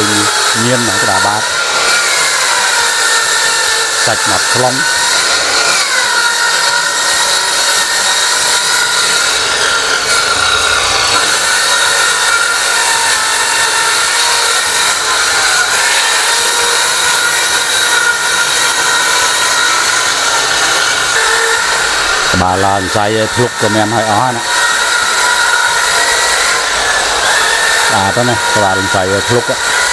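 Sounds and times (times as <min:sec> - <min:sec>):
circular saw cutting wood: 0:00.0 - 0:29.9.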